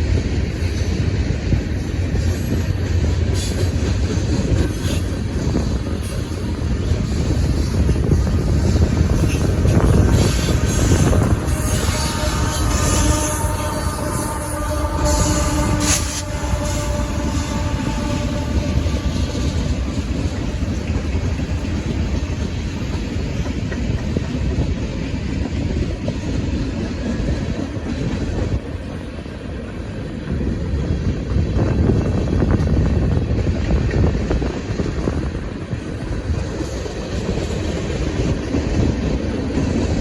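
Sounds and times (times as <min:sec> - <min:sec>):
freight train wheels rumbling on rails: 0:00.0 - 0:40.0.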